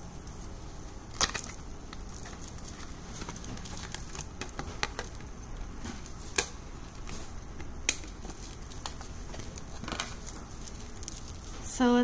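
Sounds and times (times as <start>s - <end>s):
small objects clicking and tapping: 1.1s - 11.8s.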